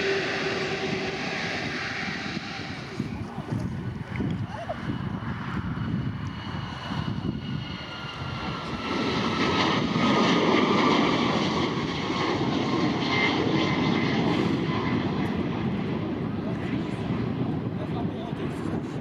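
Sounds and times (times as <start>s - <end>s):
faint engine whine: 0.0s - 17.6s
aircraft engines roaring: 0.0s - 19.0s.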